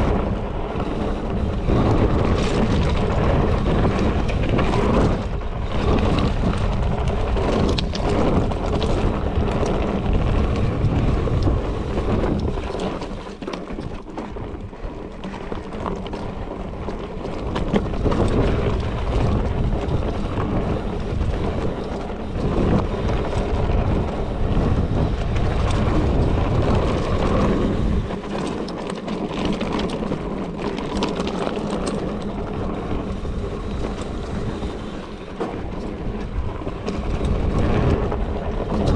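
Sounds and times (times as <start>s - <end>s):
bike rattling over bumps: 0.0s - 38.9s
tyres rolling over gravel trail: 0.0s - 38.9s
wind buffeting microphone: 0.0s - 38.9s.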